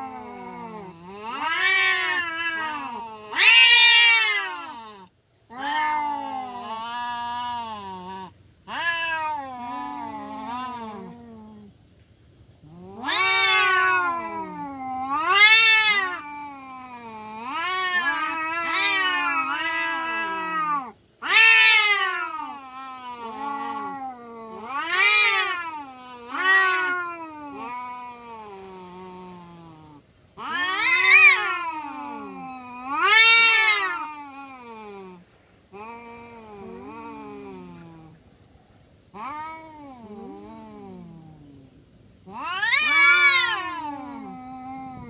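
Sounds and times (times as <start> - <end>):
cats yowling: 0.0 - 11.7, 12.6 - 38.2, 39.1 - 45.0.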